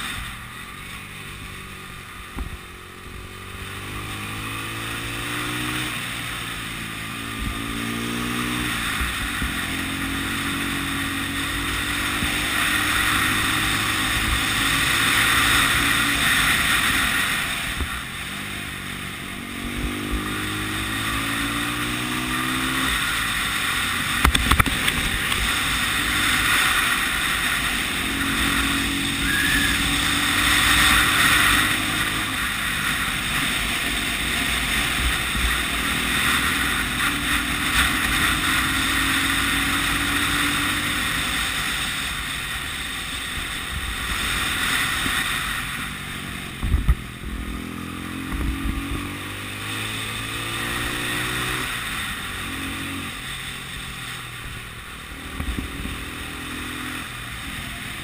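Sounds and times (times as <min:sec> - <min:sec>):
motorcycle engine accelerating: 0:00.0 - 0:58.0
wind rush on microphone: 0:06.7 - 0:57.7.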